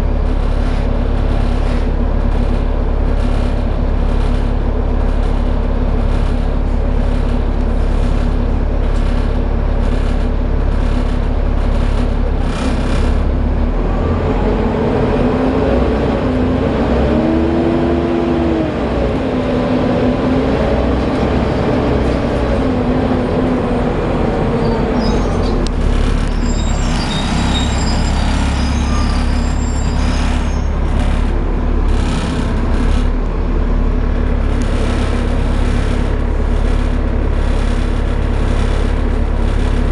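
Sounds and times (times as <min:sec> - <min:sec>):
bus engine rumble: 0:00.0 - 0:39.9
bus whine: 0:00.0 - 0:39.9.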